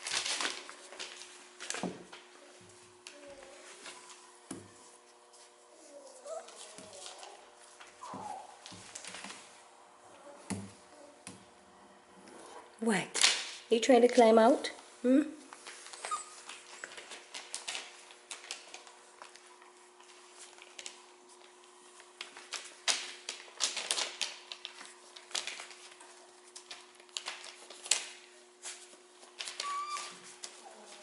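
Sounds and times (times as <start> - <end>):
newspaper crinkling under puppies: 0.0 - 11.2, 13.1 - 31.0.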